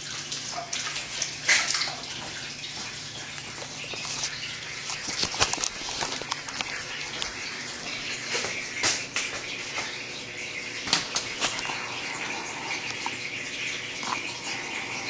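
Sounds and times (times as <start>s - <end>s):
coolant splashing into bucket: 0.0s - 15.0s.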